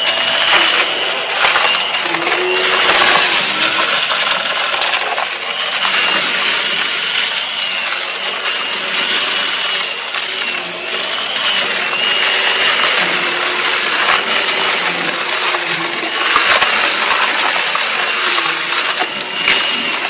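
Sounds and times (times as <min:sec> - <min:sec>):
debris crunching and rattling: 0:00.0 - 0:20.0
vacuum motor whine: 0:00.0 - 0:20.0.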